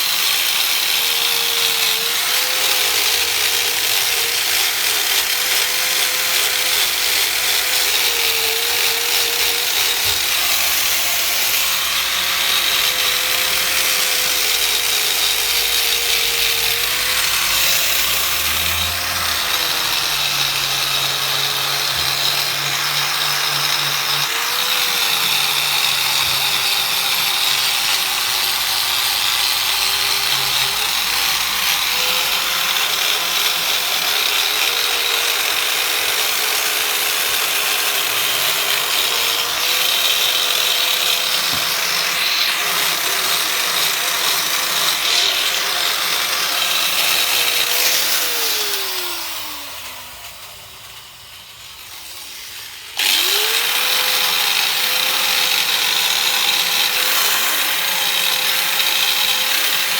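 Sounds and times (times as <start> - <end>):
angle grinder on metal: 0.0 - 59.9.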